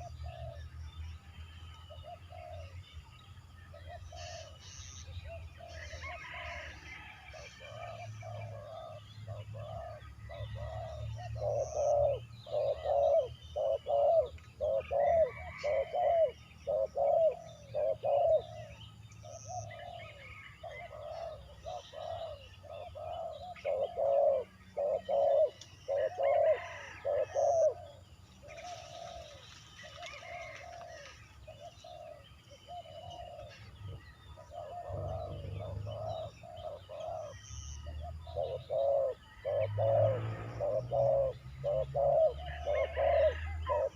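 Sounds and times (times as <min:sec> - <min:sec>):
dove cooing: 0:00.0 - 0:00.8, 0:01.9 - 0:03.0, 0:03.7 - 0:43.9
small birds chirping: 0:00.0 - 0:06.6, 0:07.3 - 0:43.9.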